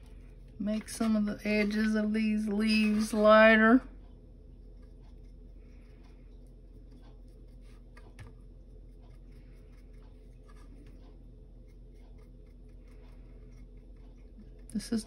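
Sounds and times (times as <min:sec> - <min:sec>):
paintbrush tapping and scratching: 0:00.0 - 0:15.0
steady low hum: 0:00.0 - 0:15.0.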